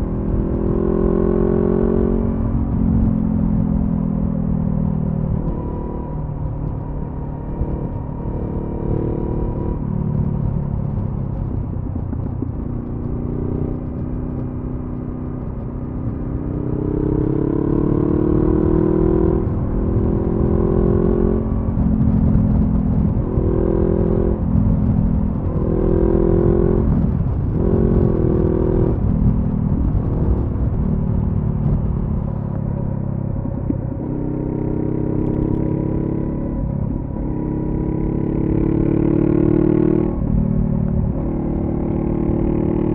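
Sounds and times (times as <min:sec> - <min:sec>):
motorcycle engine accelerating: 0:00.0 - 0:42.9
wind rumble: 0:00.0 - 0:42.9.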